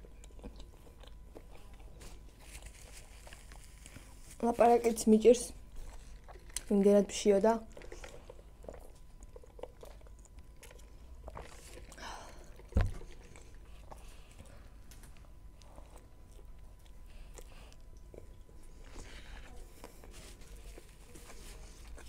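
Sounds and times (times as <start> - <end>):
person chewing food: 0.0 - 5.0, 5.6 - 7.0, 7.6 - 22.0.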